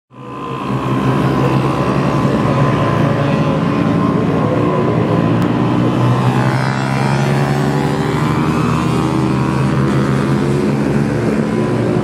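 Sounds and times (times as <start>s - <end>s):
small motorbike engines buzzing: 0.1s - 12.0s.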